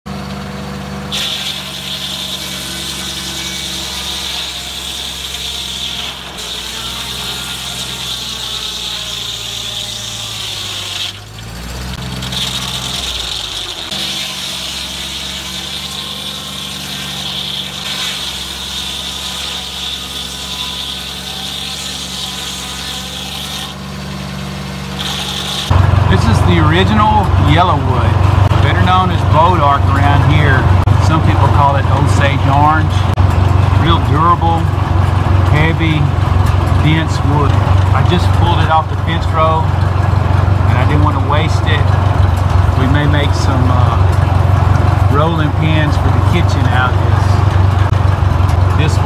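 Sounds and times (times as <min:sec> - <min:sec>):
sawmill blade cutting whine: 0:00.1 - 0:49.0
sawmill engine running: 0:00.1 - 0:49.0.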